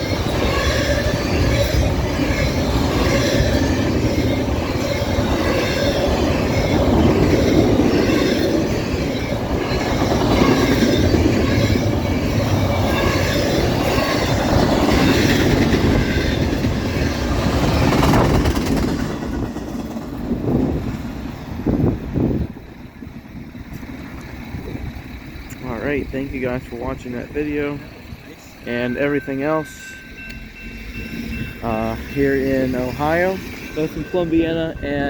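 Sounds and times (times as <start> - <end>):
wheels clacking over rail: 0.0 - 29.0
freight train cars rolling past: 0.0 - 35.0
train wheels squealing: 0.0 - 35.0.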